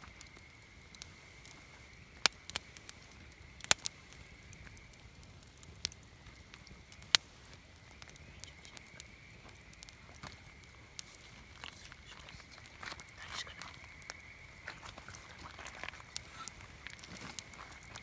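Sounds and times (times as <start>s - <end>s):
wood campfire crackling: 0.0s - 18.0s.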